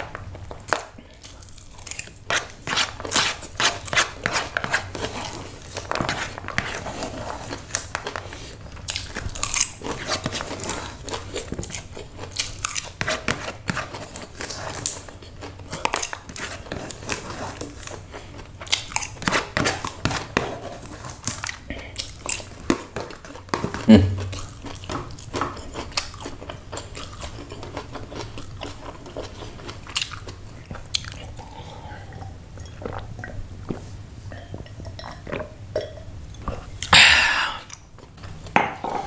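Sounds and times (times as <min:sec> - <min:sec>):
chewing and slurping noodles: 0:00.6 - 0:36.9.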